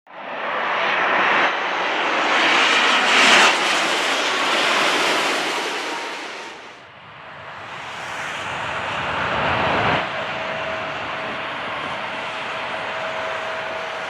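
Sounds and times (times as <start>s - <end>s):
jet engines roaring past: 0.1s - 14.0s.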